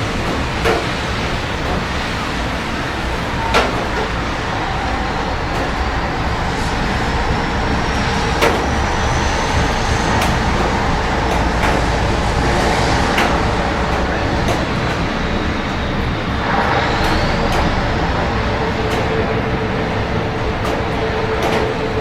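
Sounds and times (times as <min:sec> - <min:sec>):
city traffic: 0:00.0 - 0:22.0
steady rain: 0:00.0 - 0:22.0.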